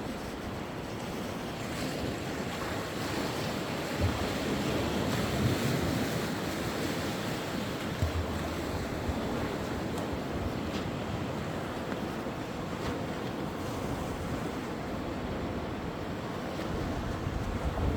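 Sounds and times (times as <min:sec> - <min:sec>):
wind rumbling on microphone: 0:00.0 - 0:17.9.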